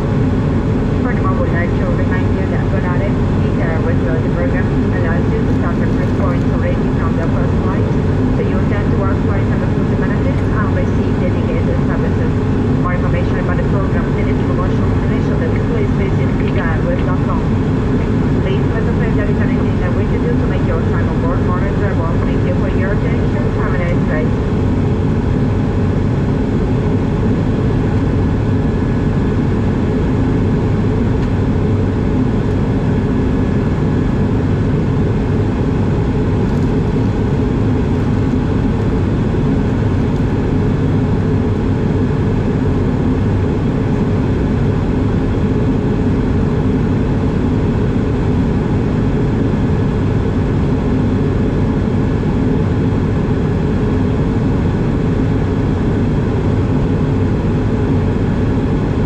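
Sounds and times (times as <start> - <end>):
airflow drone in aircraft cabin: 0.0 - 59.0
jet engines humming: 0.0 - 59.0.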